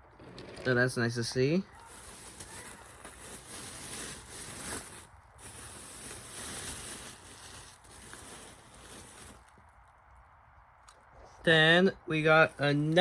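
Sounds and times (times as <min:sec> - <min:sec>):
rustling handling noise: 0:00.1 - 0:10.2, 0:12.2 - 0:13.0.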